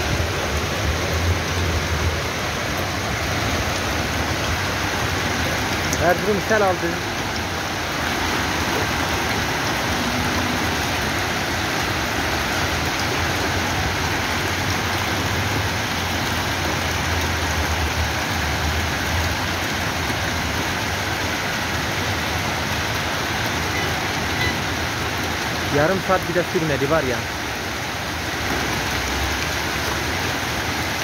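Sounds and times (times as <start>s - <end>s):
heavy rain pouring: 0.0s - 31.0s
running water: 0.0s - 31.0s.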